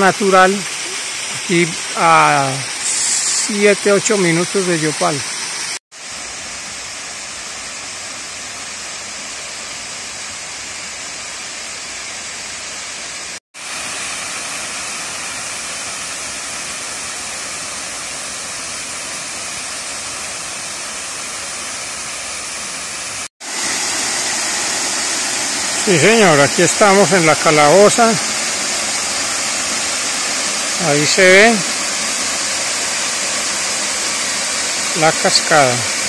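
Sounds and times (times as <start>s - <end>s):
waterfall rushing into rock pool: 0.0s - 36.0s.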